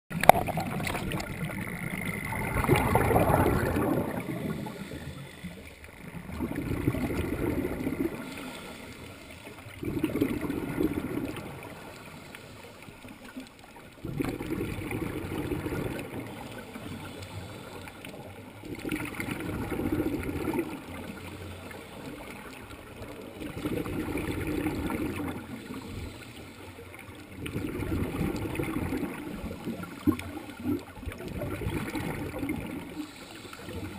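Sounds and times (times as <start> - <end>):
underwater exhale bubbles: 0.1 - 33.9.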